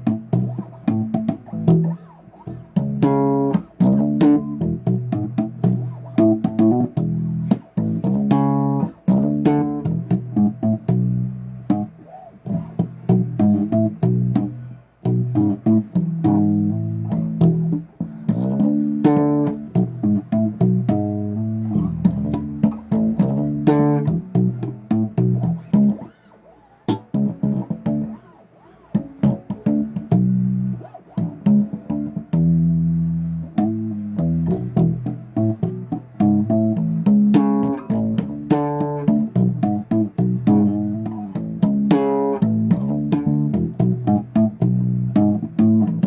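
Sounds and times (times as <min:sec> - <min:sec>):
electric bass guitar riff: 0:00.0 - 0:46.0.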